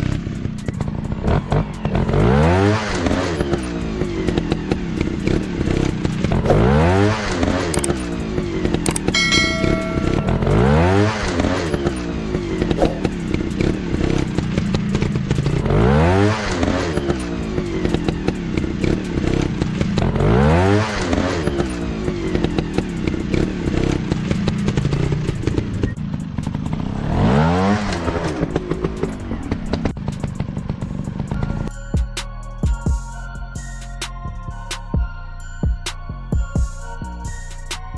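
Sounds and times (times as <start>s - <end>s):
dirt bike engine revving: 0.0s - 31.6s.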